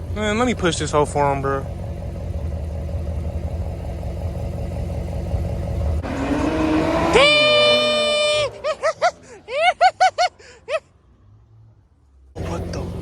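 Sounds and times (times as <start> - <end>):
car engine revving: 0.0 - 9.4, 11.4 - 13.0.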